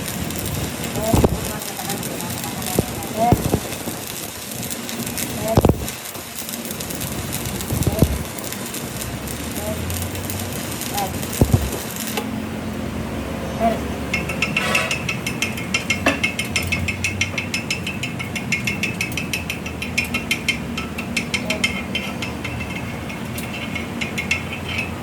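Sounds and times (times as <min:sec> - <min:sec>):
rapid metallic clicking: 0:00.0 - 0:12.3, 0:14.1 - 0:25.0.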